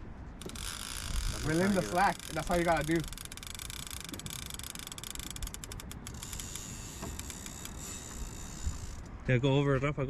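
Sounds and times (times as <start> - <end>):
fishing reel clicking: 0.4 - 9.1.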